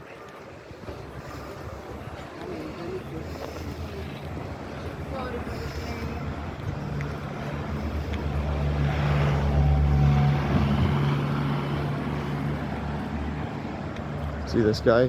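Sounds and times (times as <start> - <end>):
vehicle engine driving past: 0.9 - 14.9.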